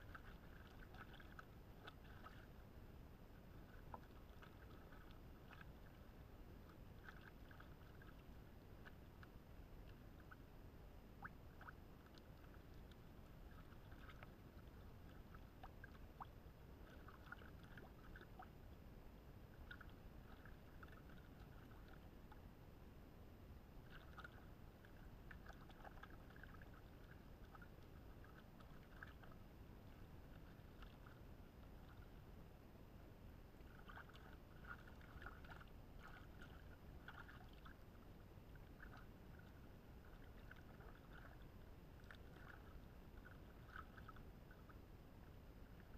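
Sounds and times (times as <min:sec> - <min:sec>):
water sloshing and splashing: 0:00.0 - 0:02.7, 0:03.3 - 0:22.4, 0:23.8 - 0:32.2, 0:33.6 - 0:45.9.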